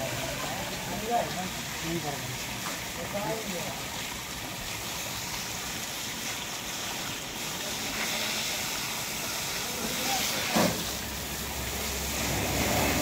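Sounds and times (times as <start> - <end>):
hose water spraying on metal: 0.0 - 13.0.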